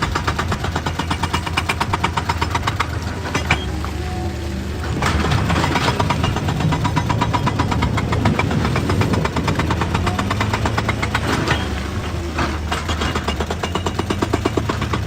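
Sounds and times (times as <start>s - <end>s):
diesel engine drone: 0.0s - 15.0s
rapid even rattle: 0.0s - 15.0s.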